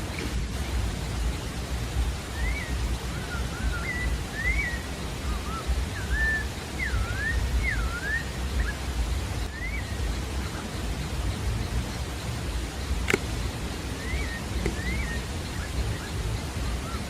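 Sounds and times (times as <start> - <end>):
bird singing whistled notes: 0.0 - 17.0
rushing background noise: 0.0 - 17.0.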